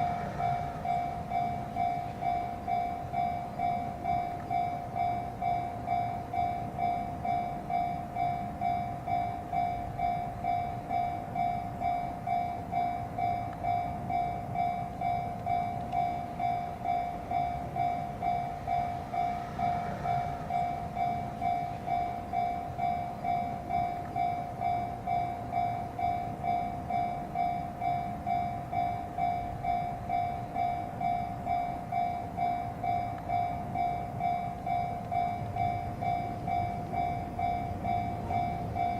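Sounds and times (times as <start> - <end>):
level-crossing electronic bell ringing: 0.0 - 38.9.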